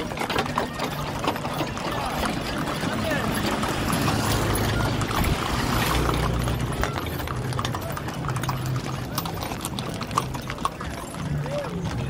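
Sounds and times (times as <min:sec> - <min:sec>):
horse hooves clip-clopping on asphalt: 0:00.0 - 0:12.0.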